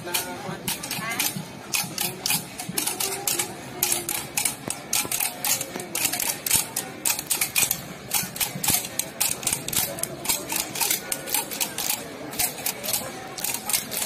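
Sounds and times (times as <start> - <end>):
faint crowd voices: 0.0 - 14.0
rapid clicking and tapping: 0.0 - 14.0.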